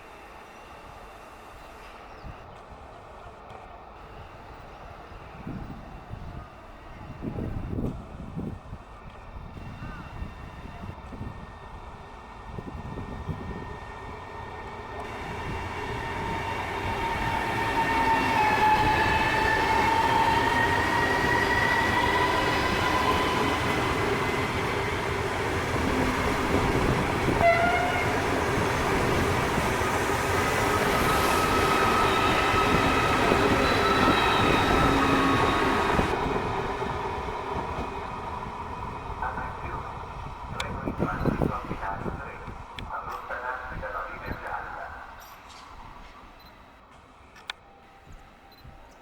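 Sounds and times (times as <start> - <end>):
train passing rumble: 0.0 - 49.0.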